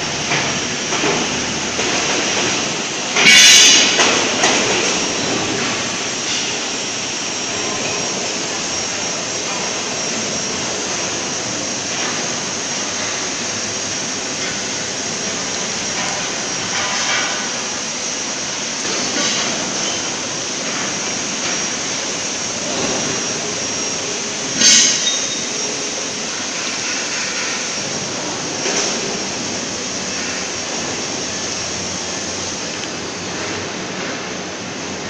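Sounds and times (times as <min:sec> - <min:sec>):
machinery hiss: 0:00.0 - 0:34.9.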